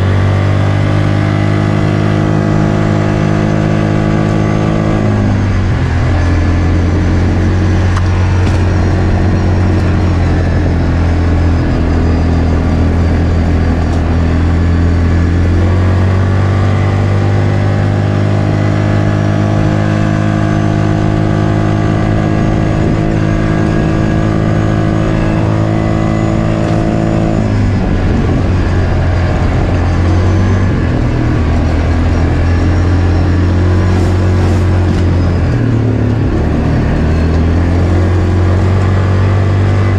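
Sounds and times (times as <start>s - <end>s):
atv engine running hard: 0.0s - 39.9s.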